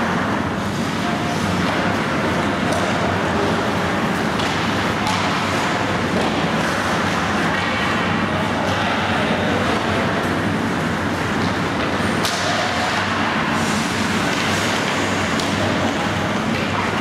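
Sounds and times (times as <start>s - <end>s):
hockey sticks or puck clacking: 0.0s - 8.9s, 11.1s - 17.0s
ice rink rushing noise: 0.0s - 17.0s.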